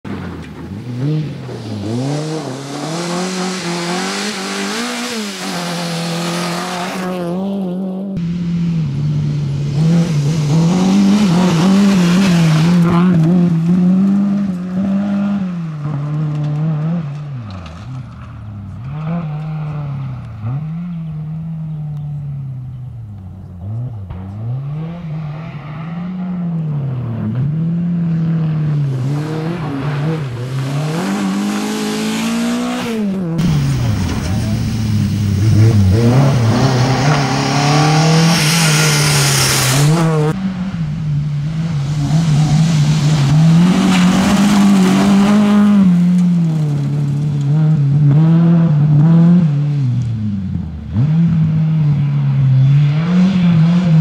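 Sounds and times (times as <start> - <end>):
rally car engine revving: 0.1 - 54.0.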